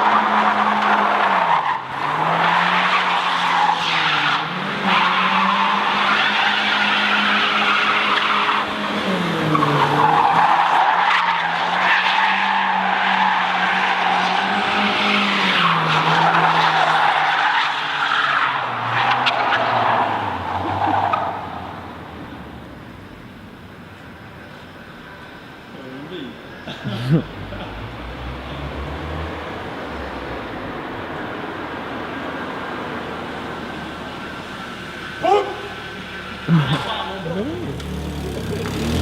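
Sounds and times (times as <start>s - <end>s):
car engine at high revs: 0.0s - 23.5s, 27.6s - 39.0s.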